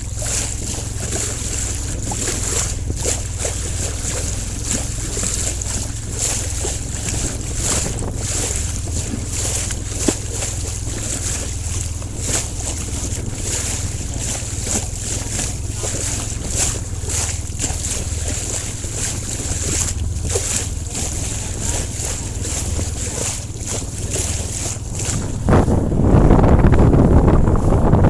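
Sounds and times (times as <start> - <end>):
low rumble: 0.0 - 28.0
wind buffeting microphone: 0.0 - 28.0.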